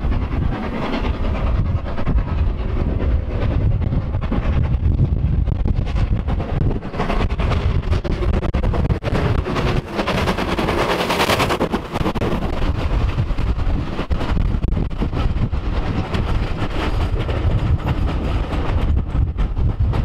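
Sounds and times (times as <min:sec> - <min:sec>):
steam locomotive exhaust beats: 0:00.0 - 0:20.0.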